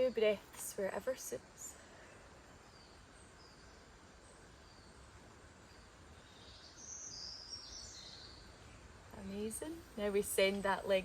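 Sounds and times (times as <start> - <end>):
outdoor background noise: 0.0 - 11.0
birds chirping and warbling: 2.1 - 11.0.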